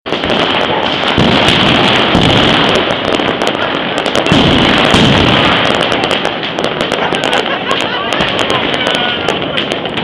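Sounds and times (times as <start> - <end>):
firecrackers crackling: 0.0 - 10.0
heavy firework booms: 0.0 - 10.0.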